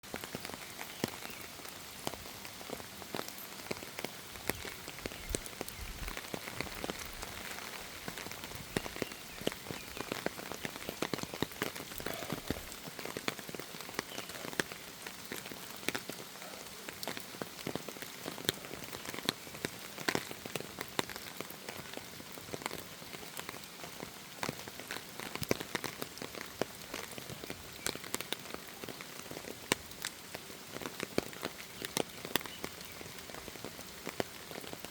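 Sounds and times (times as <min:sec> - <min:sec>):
raindrops pattering close by: 0:00.0 - 0:34.9
steady hiss of rain: 0:00.0 - 0:34.9.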